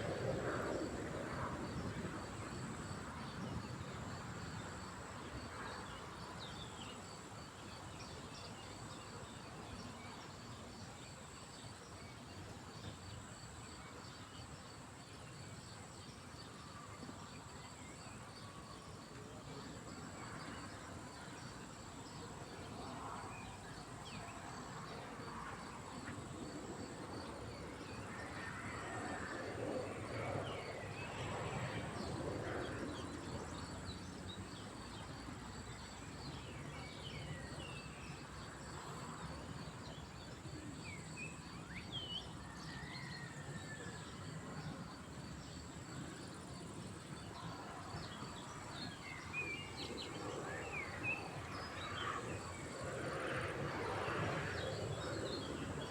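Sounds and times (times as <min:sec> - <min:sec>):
outdoor background noise: 0:00.0 - 0:55.9.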